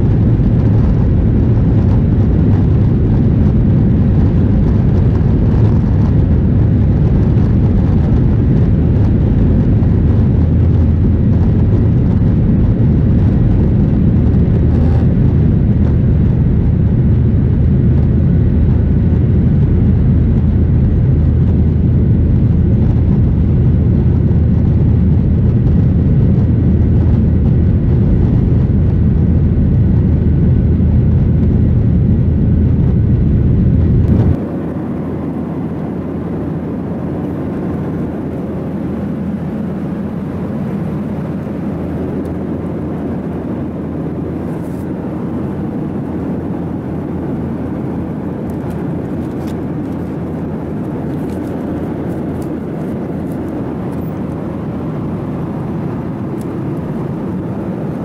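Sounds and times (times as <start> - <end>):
jet engines roaring in cabin: 0.0 - 58.0.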